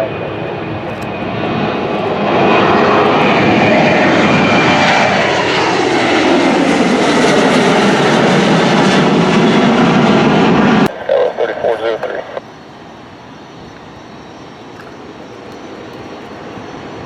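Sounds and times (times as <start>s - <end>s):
airplane passing by: 0.0s - 17.0s.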